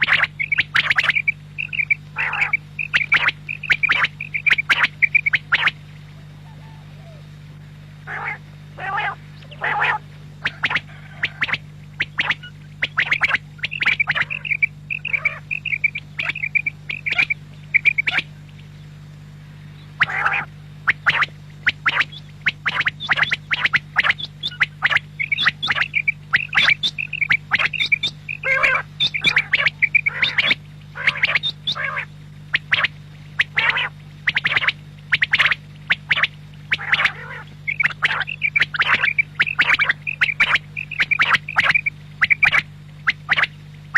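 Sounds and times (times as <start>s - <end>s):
quail calling: 0.0s - 18.8s, 19.7s - 43.9s
steady low hum: 0.0s - 43.9s.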